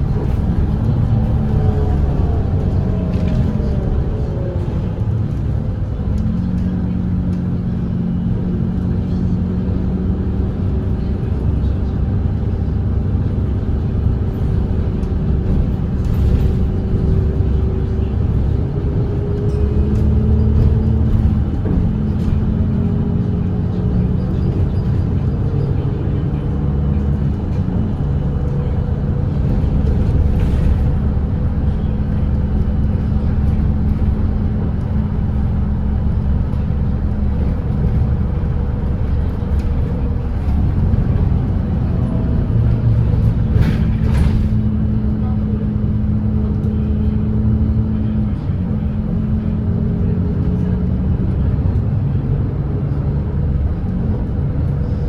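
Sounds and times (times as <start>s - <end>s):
bus diesel engine droning: 0.0s - 55.0s.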